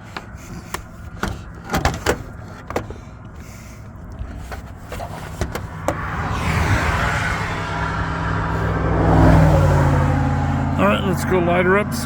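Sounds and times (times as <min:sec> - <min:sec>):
steady low rumble: 0:00.0 - 0:12.0
vehicle noise: 0:00.0 - 0:12.0.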